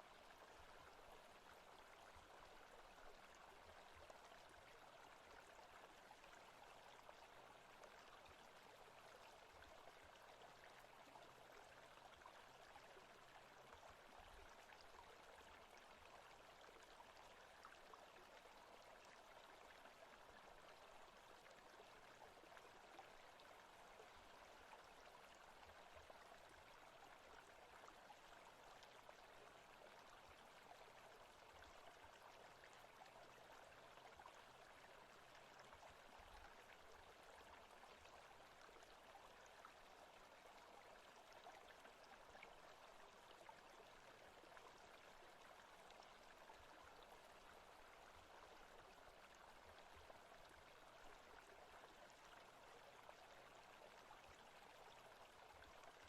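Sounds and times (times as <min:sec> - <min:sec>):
forest stream running water: 0:00.0 - 0:56.0.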